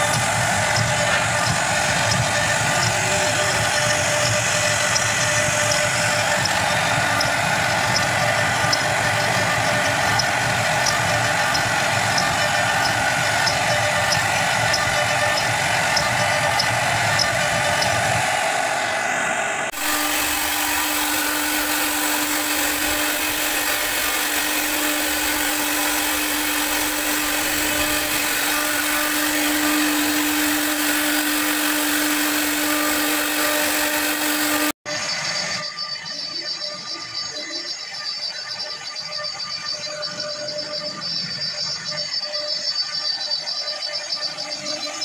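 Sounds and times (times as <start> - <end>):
cnc router cutting wood: 0.0 - 45.0
steady machine whine: 0.0 - 45.0.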